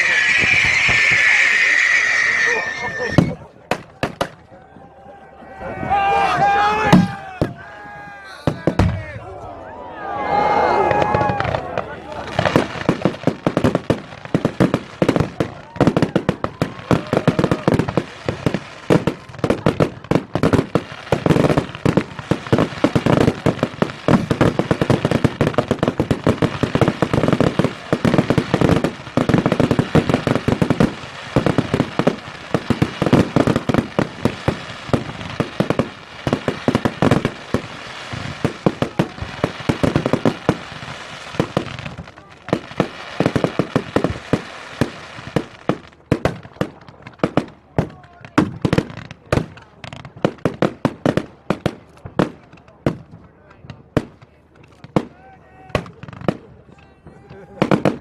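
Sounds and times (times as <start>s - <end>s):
fireworks bangs and crackles: 0.0s - 4.6s, 6.3s - 9.3s, 10.4s - 58.0s.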